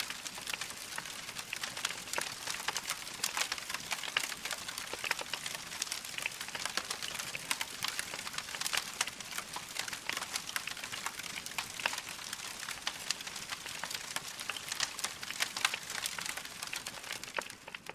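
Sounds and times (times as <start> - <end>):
sharp pops and snaps: 0.0 - 17.9
wood fire crackling: 0.0 - 17.9.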